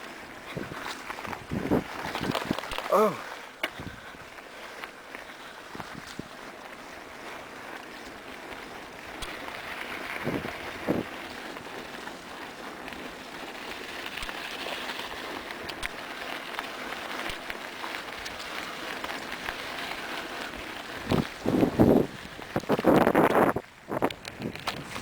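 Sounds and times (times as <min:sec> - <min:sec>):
tyres crackling on gravel and brush: 0:00.0 - 0:25.0.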